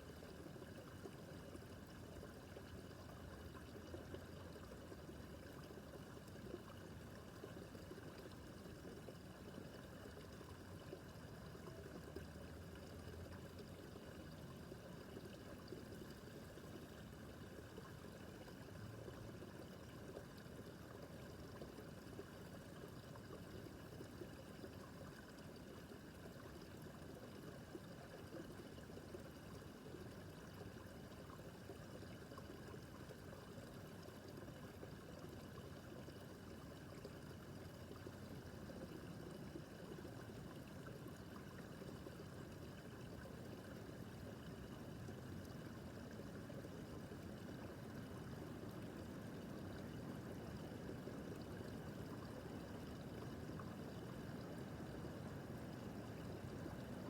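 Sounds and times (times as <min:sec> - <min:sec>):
babbling brook: 0:00.0 - 0:57.0.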